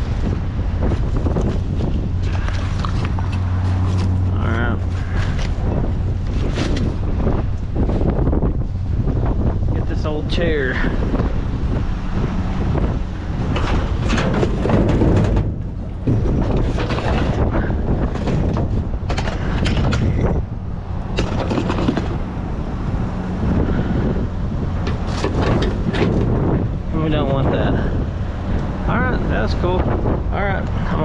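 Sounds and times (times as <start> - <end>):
junk knocking and rattling: 0.0 - 28.9
wind buffeting microphone: 0.0 - 31.0.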